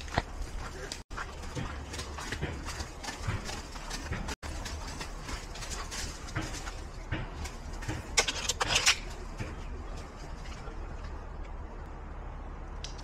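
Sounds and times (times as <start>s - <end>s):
footsteps on dirt and leaves: 0.0s - 11.3s.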